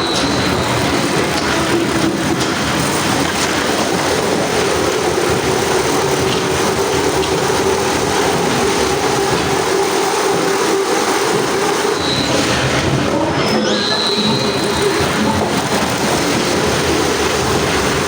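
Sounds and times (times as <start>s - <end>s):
machine running: 0.0s - 18.0s.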